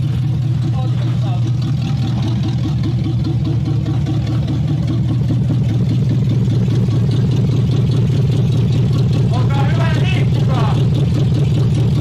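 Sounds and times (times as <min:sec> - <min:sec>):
engine running with low pulsing beat: 0:00.0 - 0:12.0.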